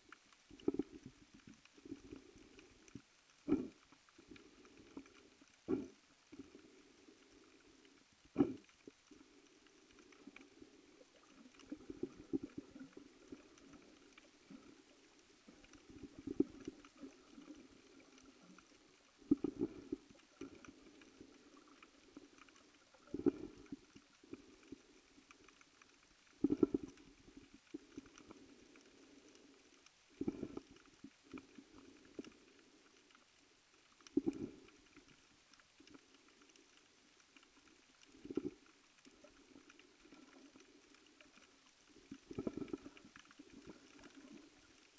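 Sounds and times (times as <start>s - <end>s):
quiet water noise: 0.0s - 44.9s.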